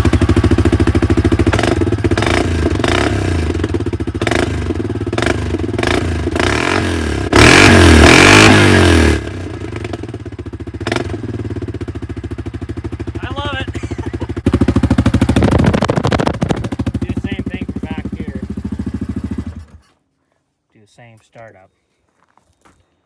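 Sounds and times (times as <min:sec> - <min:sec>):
atv engine idling and revving: 0:00.0 - 0:19.9.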